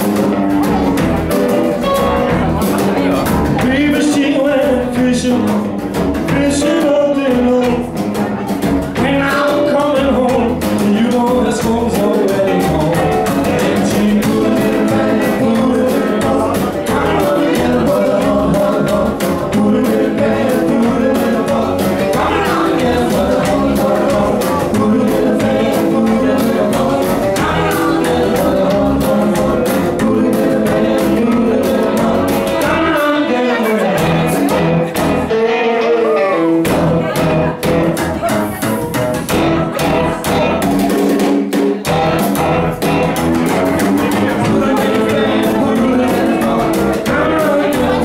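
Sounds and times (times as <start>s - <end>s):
drum kit: 0.0s - 48.0s
electric guitar: 0.0s - 48.0s
upright double bass: 0.0s - 48.0s.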